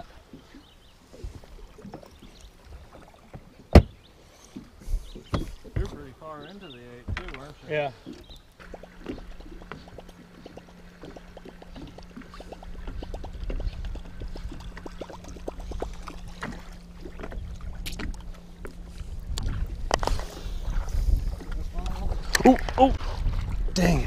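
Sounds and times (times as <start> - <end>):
waves slapping against boat hull: 0.0 - 23.8
low wind rumble: 0.0 - 24.0
steady low hum: 3.8 - 24.0.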